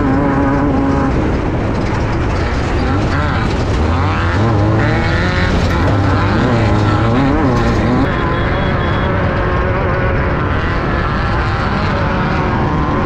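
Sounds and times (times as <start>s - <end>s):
car rattling on dirt: 0.0s - 13.0s
race car engine revving: 0.0s - 13.0s.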